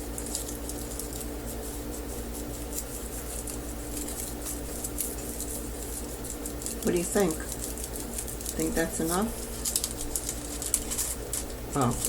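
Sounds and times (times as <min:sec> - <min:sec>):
foil scratching and crinkling: 0:00.0 - 0:12.0
steady low hum: 0:00.0 - 0:12.0.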